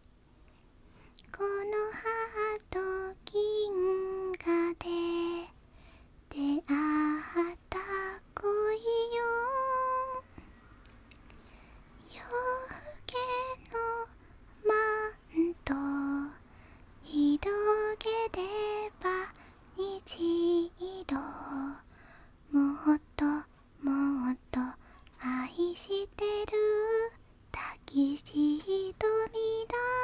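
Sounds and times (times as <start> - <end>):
woman singing softly: 1.1 - 5.6, 6.2 - 11.4, 12.0 - 30.0.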